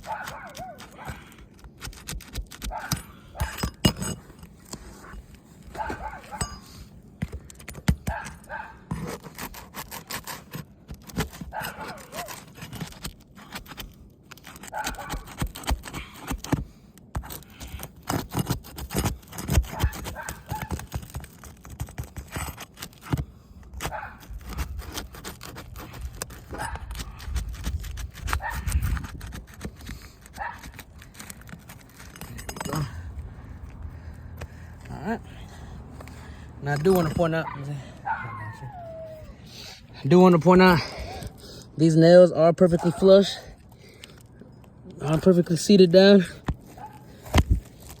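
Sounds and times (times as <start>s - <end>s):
shingles scraping and clicking: 0.0s - 38.2s, 39.8s - 48.0s.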